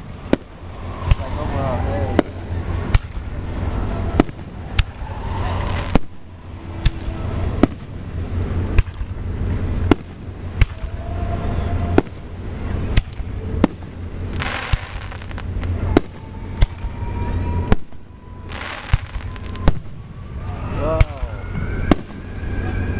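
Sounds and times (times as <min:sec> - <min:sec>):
fireworks exploding with sharp bangs: 0:00.0 - 0:22.9
low rumble: 0:00.0 - 0:22.9.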